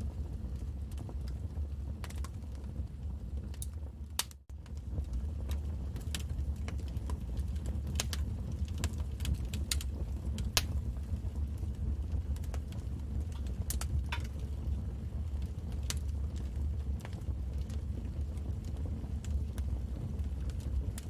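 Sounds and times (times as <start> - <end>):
low steady rumble: 0.0 - 21.0
wood fire crackling: 0.0 - 21.0.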